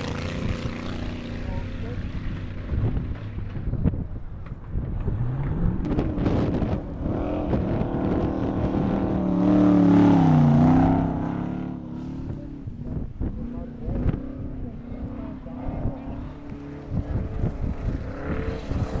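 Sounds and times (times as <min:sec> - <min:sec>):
car engine at full throttle: 0:00.0 - 0:19.0.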